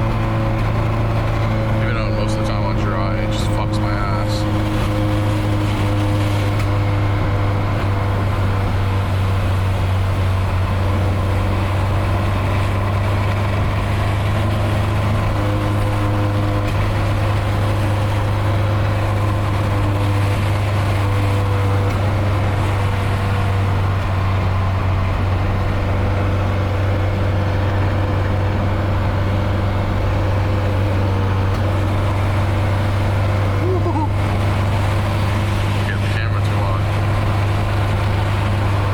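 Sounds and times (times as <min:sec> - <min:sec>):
car engine and exhaust droning: 0:00.0 - 0:38.9.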